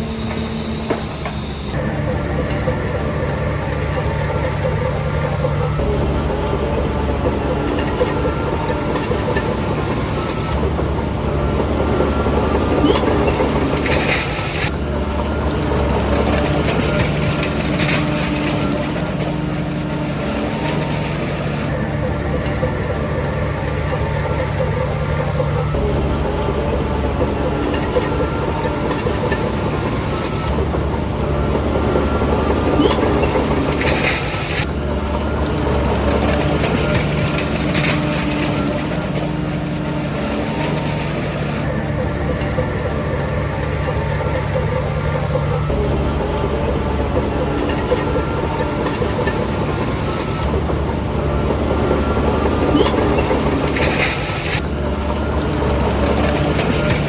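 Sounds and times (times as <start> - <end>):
diesel engine running: 0.0 - 57.0
steel crawler tracks clattering: 0.0 - 57.0.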